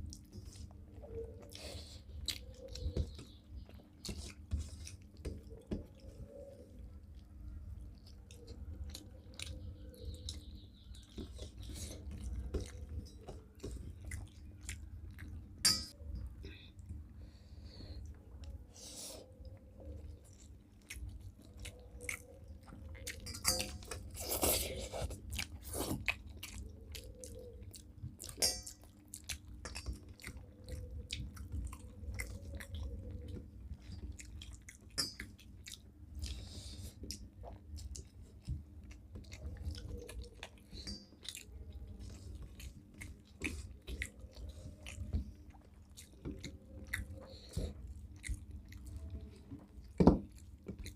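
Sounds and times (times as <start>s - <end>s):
people chewing food: 0.0s - 50.9s.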